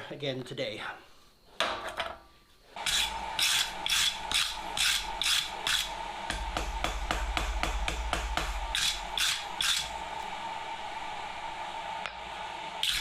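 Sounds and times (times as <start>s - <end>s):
steady hum: 2.2s - 13.0s.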